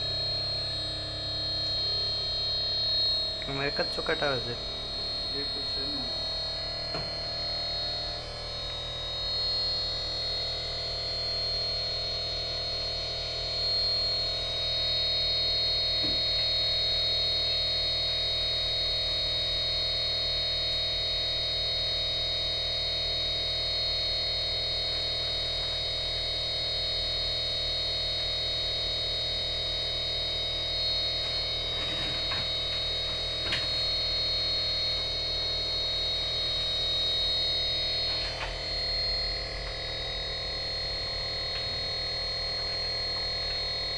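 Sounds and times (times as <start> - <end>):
high-pitched electronic whine: 0.0 - 43.9.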